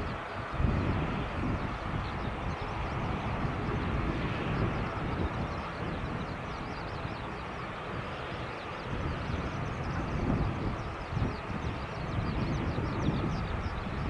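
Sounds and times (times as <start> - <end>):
turboprop engines rumbling: 0.0 - 14.0.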